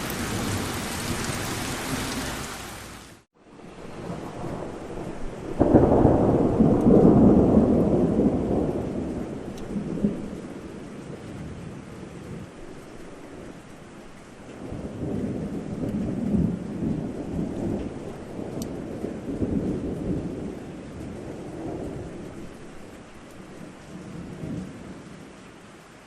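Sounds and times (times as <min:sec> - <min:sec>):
thunder rumbling: 0:00.0 - 0:02.5, 0:03.6 - 0:25.4
steady rain: 0:00.0 - 0:26.0.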